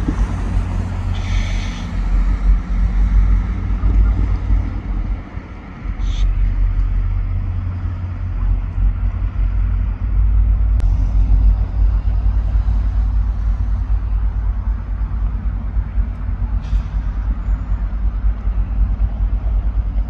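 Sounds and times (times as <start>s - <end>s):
diesel locomotive rumbling: 0.0s - 20.0s
wind buffeting microphone: 0.0s - 20.0s.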